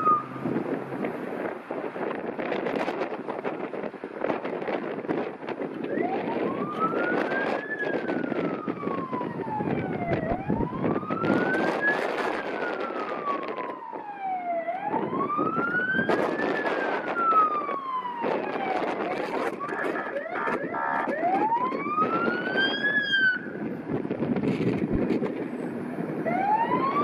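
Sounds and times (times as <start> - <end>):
fire truck siren wailing: 0.0 - 27.0
wind buffeting microphone: 0.0 - 27.0.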